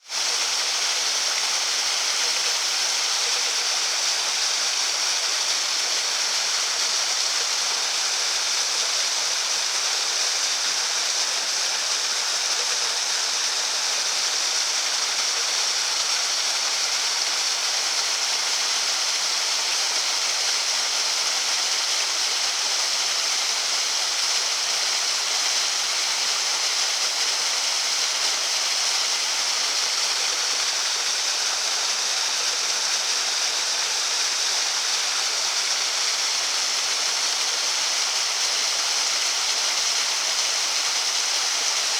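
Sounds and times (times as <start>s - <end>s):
small waterfall splashing: 0.0s - 41.9s.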